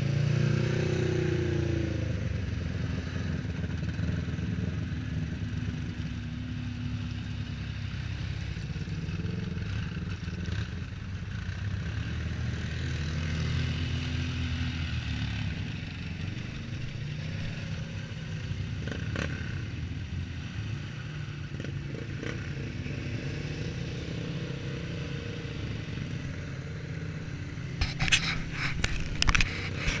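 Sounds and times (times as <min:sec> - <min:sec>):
off-road vehicle engines droning: 0:00.0 - 0:30.0.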